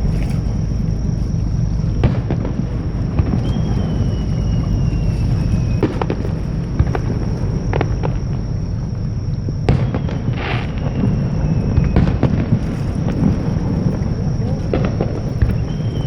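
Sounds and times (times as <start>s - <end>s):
fireworks cracks: 0.0s - 8.4s, 9.7s - 16.0s
low fireworks rumble: 0.0s - 16.0s
falling firework whistle: 1.8s - 9.0s, 9.6s - 16.0s.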